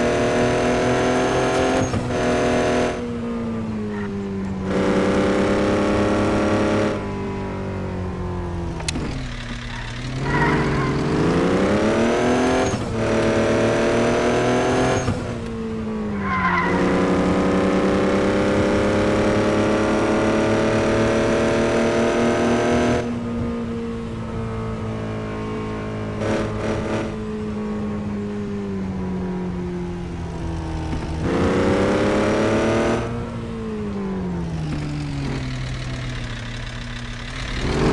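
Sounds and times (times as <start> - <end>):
vehicle engine running: 1.8 - 21.7, 23.3 - 37.9.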